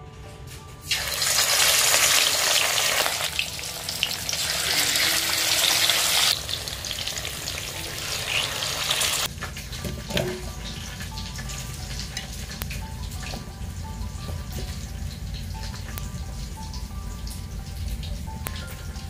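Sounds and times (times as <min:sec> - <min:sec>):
fish sizzling in hot oil: 0:00.9 - 0:19.0.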